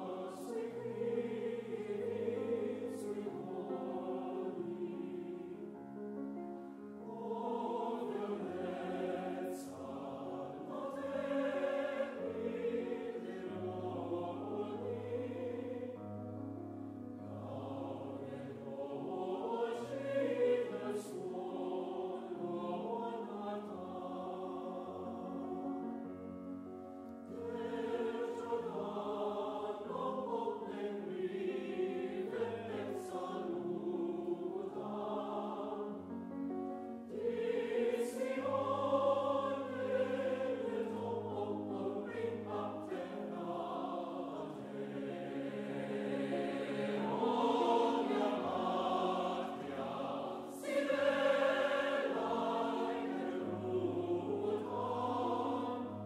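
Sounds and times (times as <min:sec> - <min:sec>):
mixed choir singing: 0:00.0 - 0:05.8, 0:06.8 - 0:26.1, 0:27.2 - 0:56.0.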